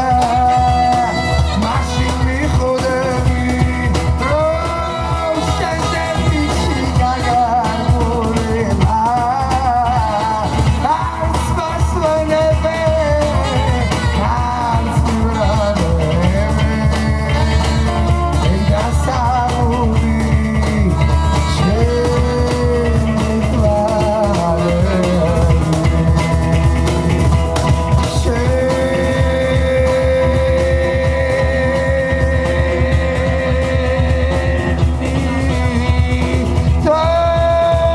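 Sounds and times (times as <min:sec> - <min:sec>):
live band playing melody: 0:00.0 - 0:37.9
person singing: 0:00.0 - 0:37.9.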